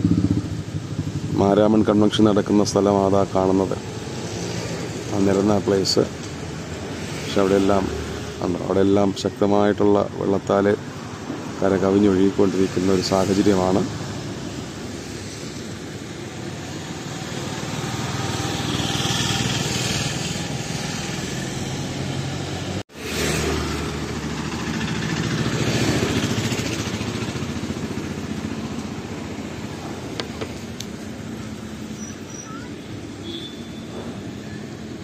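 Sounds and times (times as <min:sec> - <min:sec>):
traffic passing: 0:00.0 - 0:35.0.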